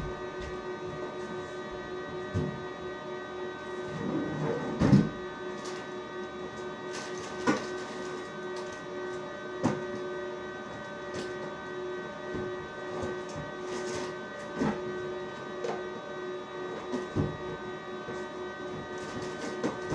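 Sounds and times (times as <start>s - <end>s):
machine hum: 0.0s - 19.9s.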